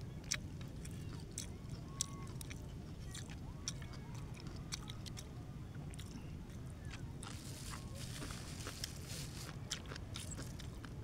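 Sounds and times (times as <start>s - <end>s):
low background rumble: 0.0s - 11.0s
person chewing: 0.2s - 5.3s, 5.9s - 11.0s.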